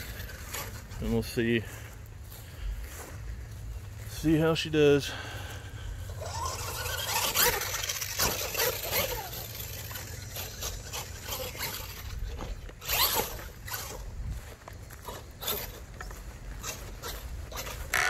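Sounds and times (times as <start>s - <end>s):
rc truck motor whining: 0.0s - 1.4s, 4.8s - 18.0s
tyres scraping over ground: 0.0s - 18.0s.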